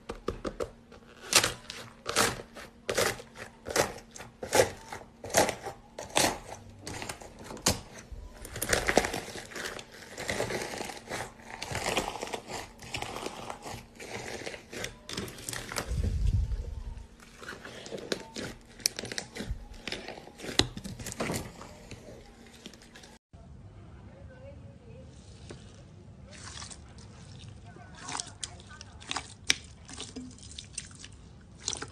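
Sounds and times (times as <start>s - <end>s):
fingers crunching slime: 0.0s - 16.4s, 17.2s - 22.0s, 25.6s - 31.9s.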